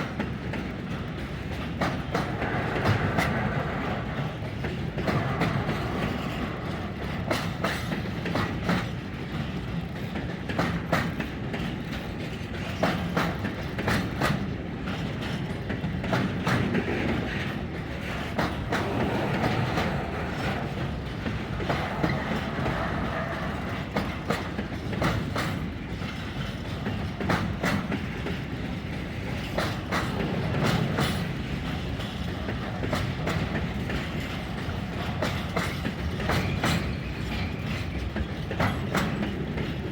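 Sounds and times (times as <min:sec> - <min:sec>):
freight train rumble: 0:00.0 - 0:39.9
wheels clattering over rail joints: 0:00.0 - 0:39.9.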